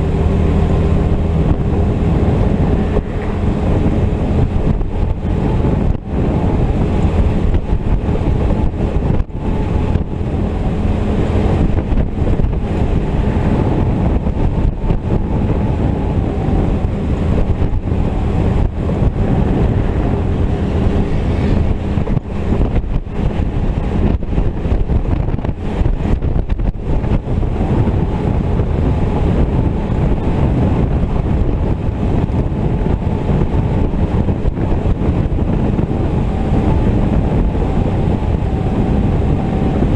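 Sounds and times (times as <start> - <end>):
jeep engine running: 0.0 - 39.9
wind buffeting microphone: 0.0 - 39.9.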